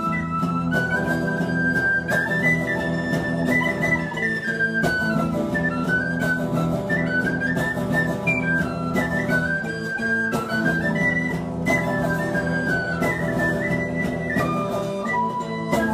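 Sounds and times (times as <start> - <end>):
tin whistle melody: 0.0 - 15.9.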